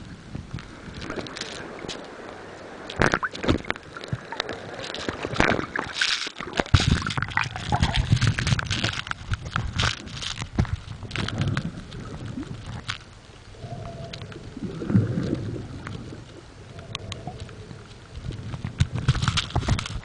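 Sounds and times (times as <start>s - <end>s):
muffled rumbling water swells: 0.0s - 20.0s
underwater clicks and crackles: 0.0s - 20.0s.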